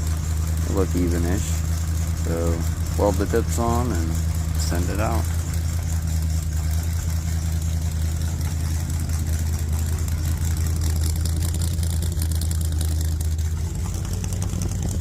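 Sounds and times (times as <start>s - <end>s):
engine idling low rumble: 0.0s - 15.0s.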